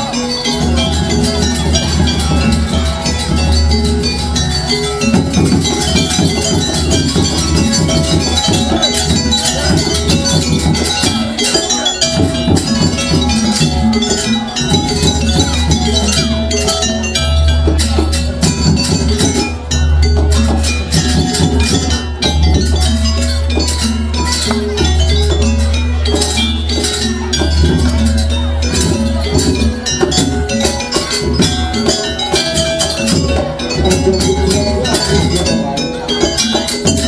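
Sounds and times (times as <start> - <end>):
clanging gong percussion: 0.0 - 37.0
drums: 0.0 - 37.0.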